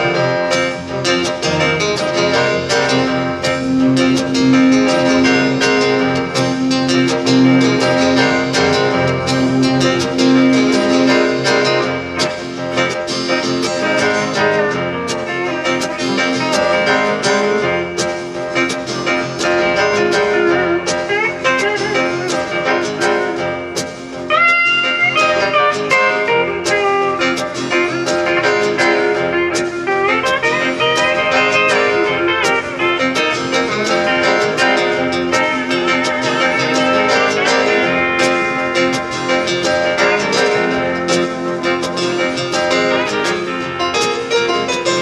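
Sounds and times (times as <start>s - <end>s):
acoustic guitar picking: 0.0s - 45.0s
country band playing: 0.0s - 45.0s.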